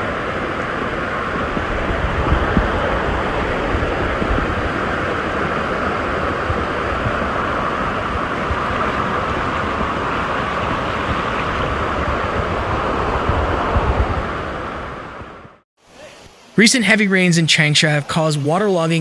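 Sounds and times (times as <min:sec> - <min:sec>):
wind buffeting microphone: 0:00.0 - 0:15.6
floodwater rushing: 0:00.0 - 0:19.0.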